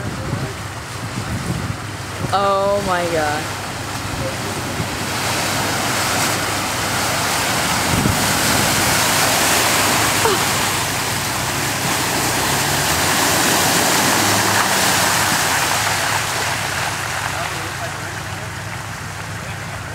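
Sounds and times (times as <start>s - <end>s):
splashing water and mud: 0.0s - 19.9s
suv engine running: 0.0s - 19.9s.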